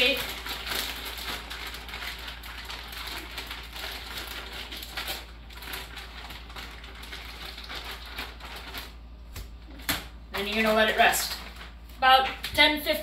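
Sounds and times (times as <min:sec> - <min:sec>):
plastic bag crinkling and rustling: 0:00.0 - 0:12.6.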